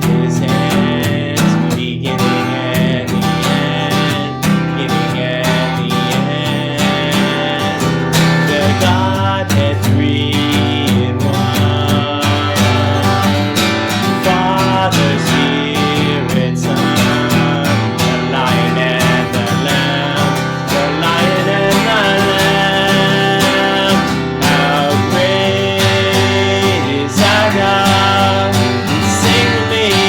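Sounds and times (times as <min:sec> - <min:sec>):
instrumental-led song: 0:00.0 - 0:30.0.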